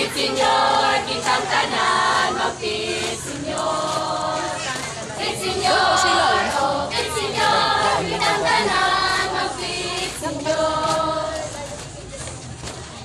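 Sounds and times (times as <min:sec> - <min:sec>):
many voices singing together: 0:00.0 - 0:11.7.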